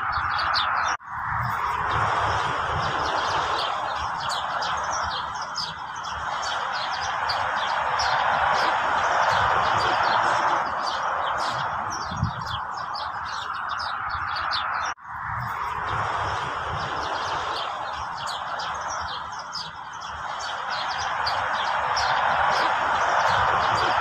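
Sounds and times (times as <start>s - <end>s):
songbirds chirping and twittering: 0.0s - 24.0s
steady rushing noise: 0.0s - 24.0s.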